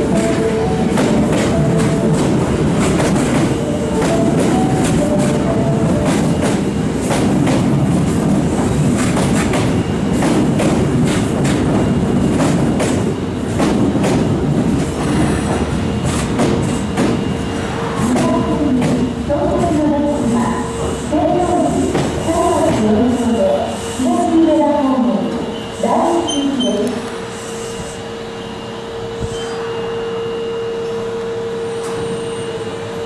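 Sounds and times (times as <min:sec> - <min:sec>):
subway train rumble: 0:00.0 - 0:33.0.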